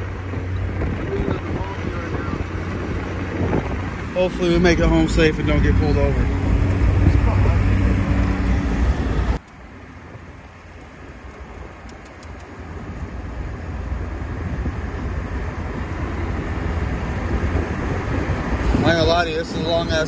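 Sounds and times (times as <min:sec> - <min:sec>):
car engine: 0:00.0 - 0:20.0
road noise rumble: 0:00.0 - 0:20.0.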